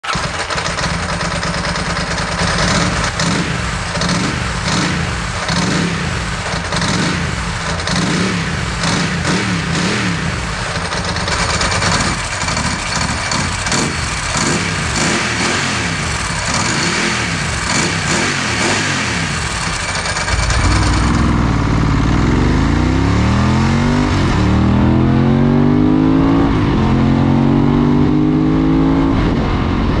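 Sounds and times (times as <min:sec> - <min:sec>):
motorcycle engine revving: 0:00.0 - 0:29.7.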